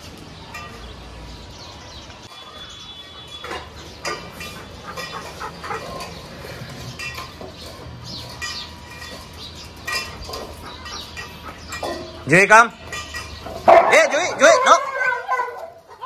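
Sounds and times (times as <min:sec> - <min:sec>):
metal dog bowls clinking on tiles: 0:00.4 - 0:01.0, 0:02.2 - 0:15.2.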